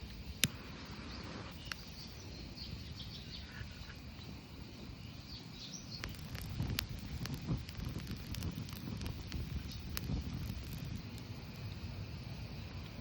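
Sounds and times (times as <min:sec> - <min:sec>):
campfire crackling: 0:00.0 - 0:13.0
low steady rumble: 0:00.0 - 0:13.0
birds chirping: 0:00.3 - 0:12.8.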